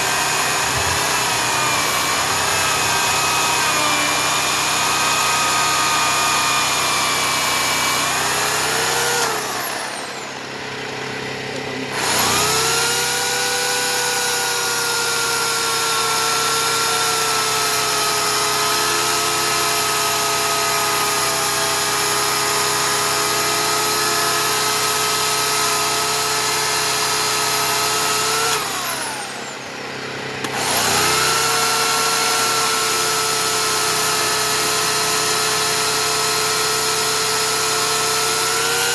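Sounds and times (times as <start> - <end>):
electric chainsaw sawing wood: 0.0 - 38.9.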